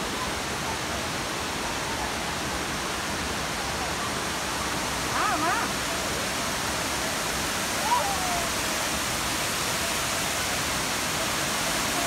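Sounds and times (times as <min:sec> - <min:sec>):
rush of falling water: 0:00.0 - 0:12.0.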